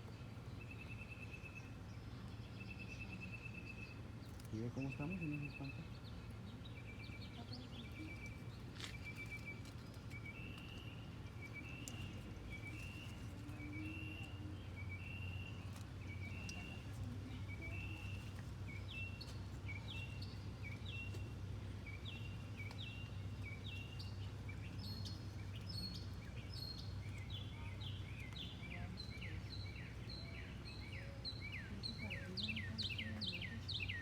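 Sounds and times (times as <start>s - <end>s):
birds calling: 2.9s - 34.0s.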